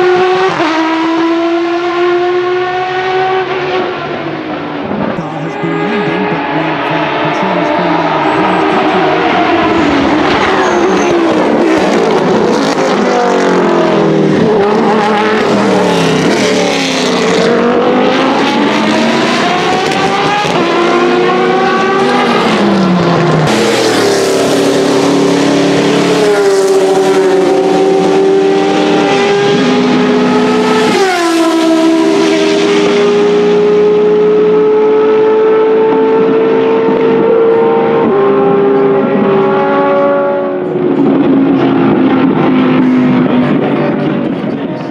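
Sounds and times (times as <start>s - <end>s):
race cars passing at speed: 0.0s - 44.9s.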